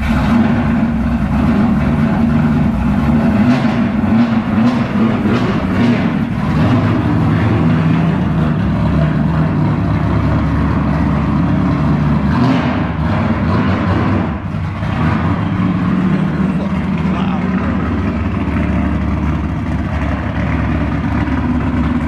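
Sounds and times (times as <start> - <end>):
engine idling through loud exhaust: 0.0 - 22.0.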